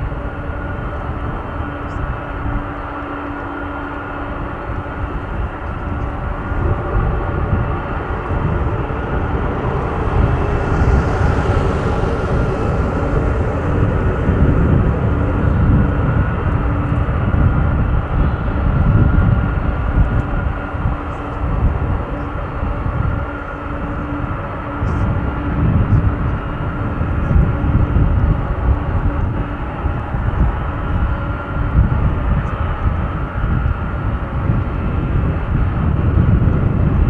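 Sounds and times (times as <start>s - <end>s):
jet engines rumbling with hiss: 0.0s - 37.0s.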